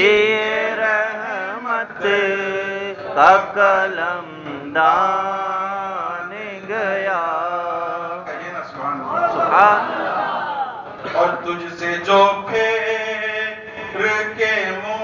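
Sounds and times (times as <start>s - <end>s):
man singing unaccompanied: 0.0s - 9.9s, 11.1s - 15.0s.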